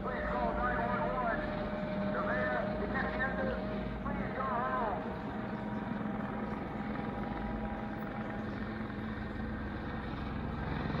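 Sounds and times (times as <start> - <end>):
helicopter rotor drone: 0.0 - 11.0.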